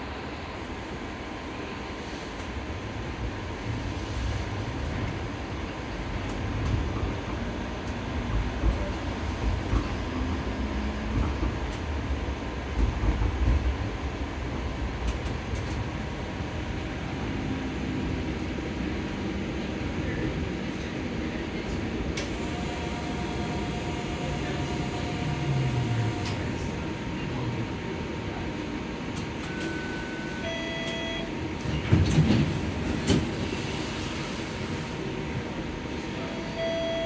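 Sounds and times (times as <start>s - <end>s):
steel wheels rumbling on rails: 1.7s - 30.3s, 31.4s - 36.1s.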